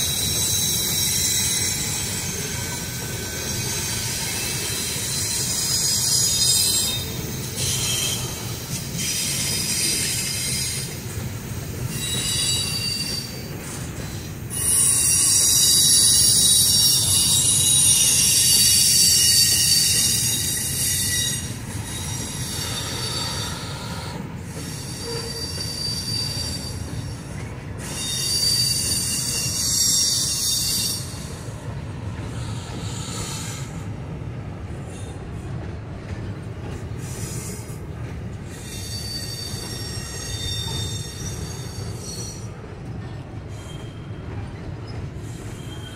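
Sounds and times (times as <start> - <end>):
train rolling past rumble: 0.0 - 45.9
train wheels squealing on rails: 0.0 - 45.9.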